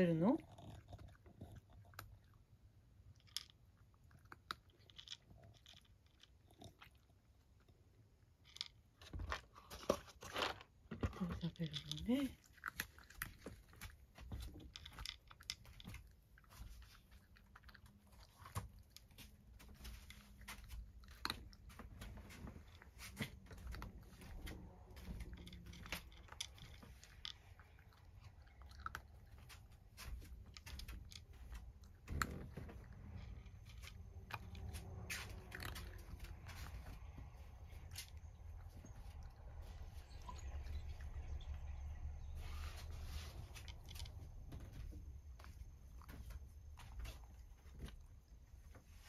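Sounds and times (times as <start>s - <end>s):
cat crunching dry kibble: 0.0s - 49.0s.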